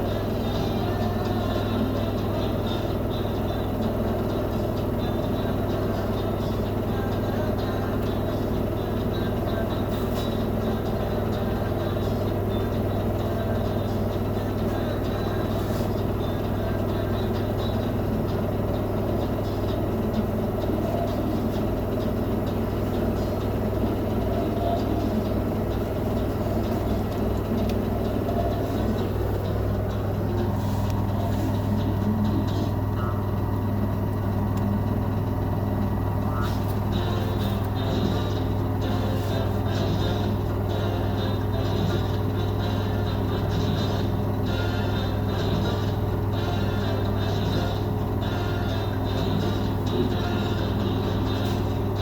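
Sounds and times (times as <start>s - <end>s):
washing machine humming: 0.0s - 52.0s.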